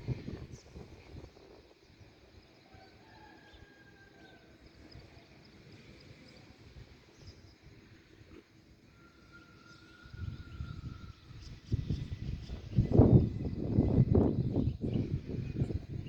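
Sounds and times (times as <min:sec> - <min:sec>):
thin steady whistles: 0:00.0 - 0:16.0.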